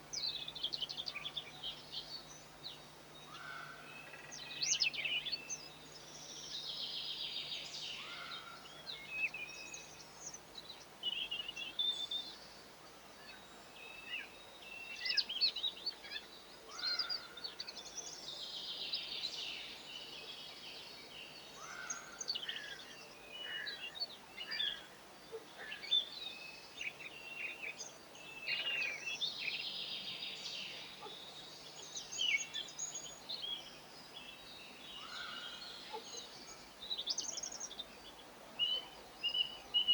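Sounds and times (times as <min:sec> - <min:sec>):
songbirds chirping and singing: 0:00.0 - 0:12.5, 0:13.3 - 0:39.9.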